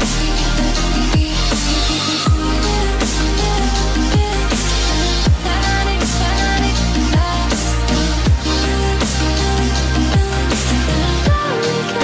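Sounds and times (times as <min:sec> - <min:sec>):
electronic music with beat: 0:00.0 - 0:12.0.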